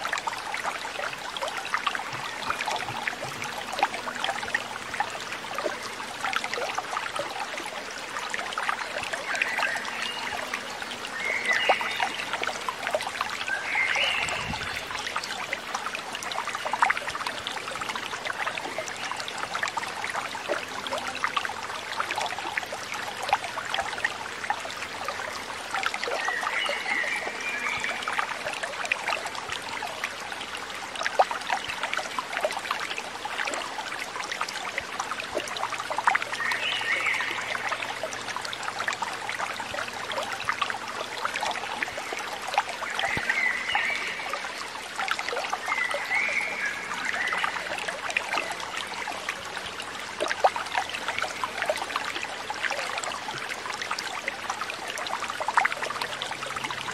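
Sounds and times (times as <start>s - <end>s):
shallow water trickling: 0.0s - 56.9s.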